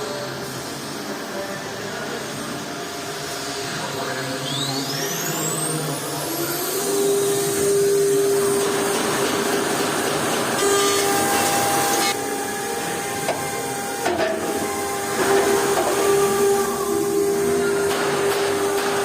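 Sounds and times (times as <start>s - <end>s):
machining center running: 0.0s - 19.0s.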